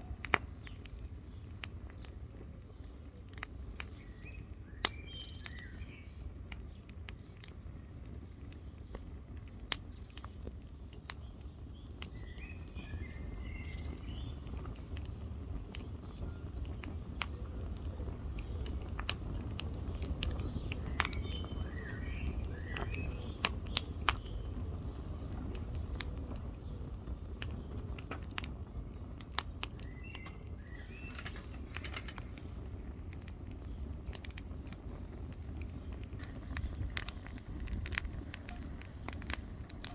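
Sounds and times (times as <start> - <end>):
bird chirping: 0.0 - 39.9
campfire crackling and popping: 0.0 - 39.9.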